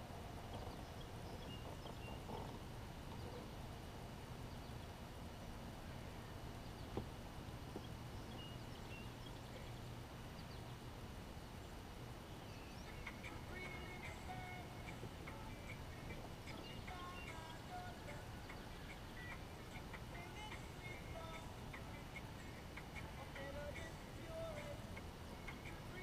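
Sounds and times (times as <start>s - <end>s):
distant bird chirps: 0.0s - 5.1s, 5.7s - 26.0s.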